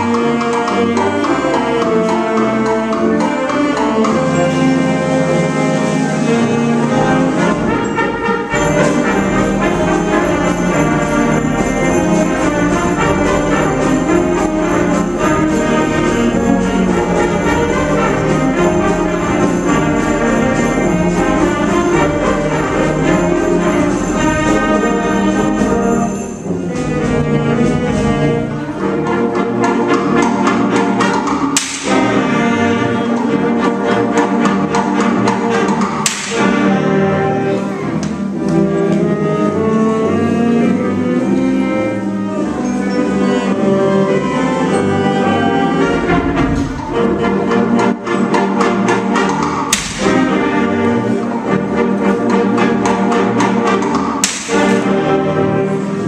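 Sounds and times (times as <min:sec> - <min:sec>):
school band playing brass: 0:00.0 - 0:56.0.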